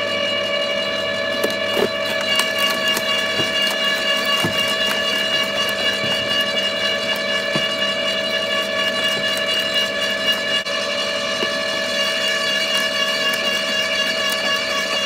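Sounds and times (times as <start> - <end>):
garden shredder gear whine: 0.0 - 15.0.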